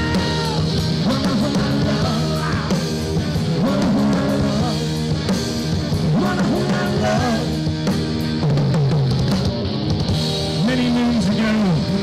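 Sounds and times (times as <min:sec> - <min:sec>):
drum kit beating: 0:00.0 - 0:12.0
live rock band playing: 0:00.0 - 0:12.0.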